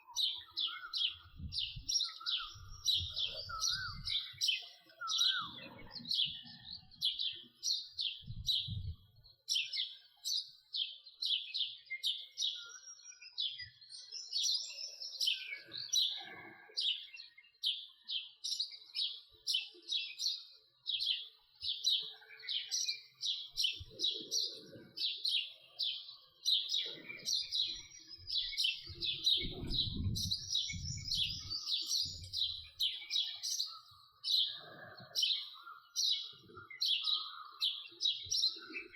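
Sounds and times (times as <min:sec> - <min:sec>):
sparrow chirping: 0:00.0 - 0:38.9.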